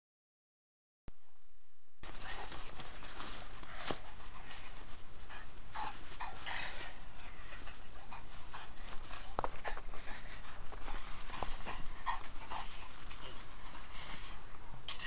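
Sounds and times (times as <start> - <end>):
dog panting: 2.0 - 14.4.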